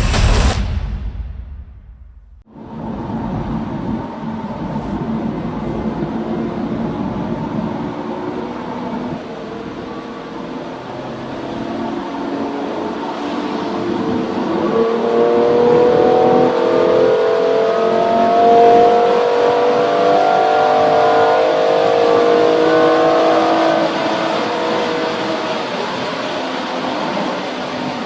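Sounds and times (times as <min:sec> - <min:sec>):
car engine accelerating hard: 0:02.6 - 0:28.0.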